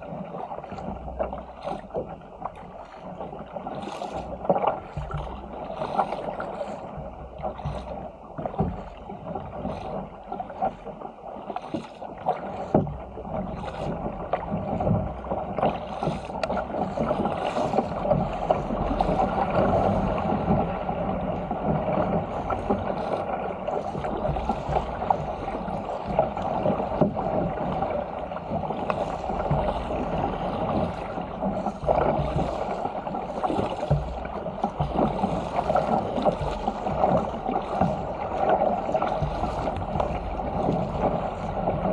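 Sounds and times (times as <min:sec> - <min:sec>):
paddle splashes: 0:00.0 - 0:41.9
water rushing along a hull: 0:00.0 - 0:41.9.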